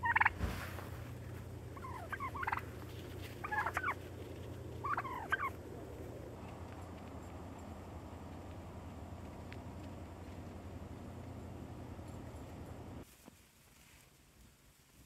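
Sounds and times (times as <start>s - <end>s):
turkeys gobbling: 0.0s - 13.0s.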